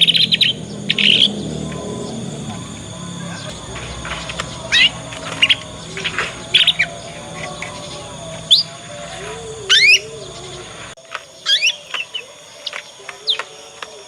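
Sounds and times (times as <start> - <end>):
canary twittering: 0.0 - 11.8.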